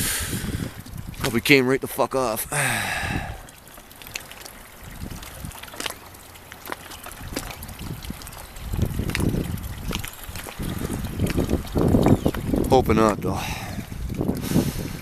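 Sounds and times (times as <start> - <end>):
water trickling and lapping: 0.0 - 15.0
small clicks and splashes: 0.7 - 15.0.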